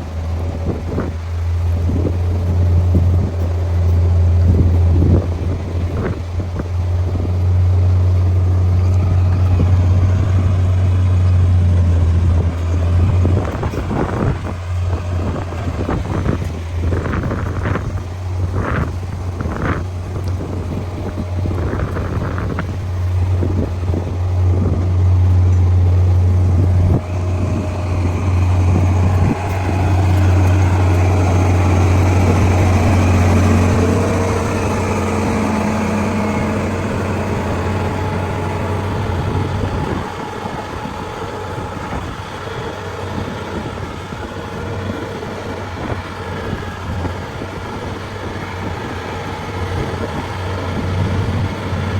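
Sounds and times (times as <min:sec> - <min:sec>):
heavy machinery engine hum: 0:00.0 - 0:51.9.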